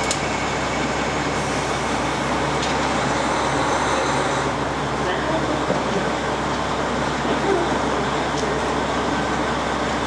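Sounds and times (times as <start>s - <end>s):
diesel railcar engines idling: 0.0s - 10.0s.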